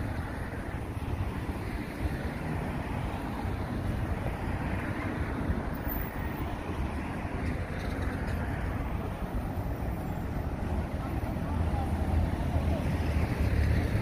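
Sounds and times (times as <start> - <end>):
road traffic drone: 0.0 - 14.0.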